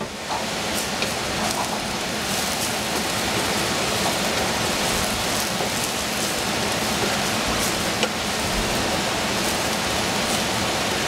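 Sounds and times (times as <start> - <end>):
food sizzling in a pan: 0.1 - 11.0.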